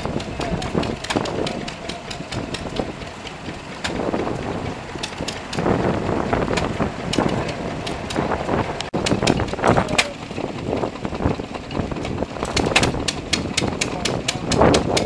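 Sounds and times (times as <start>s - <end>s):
sharp ticks: 0.0s - 8.2s, 8.8s - 15.0s
small engine running: 0.0s - 15.0s.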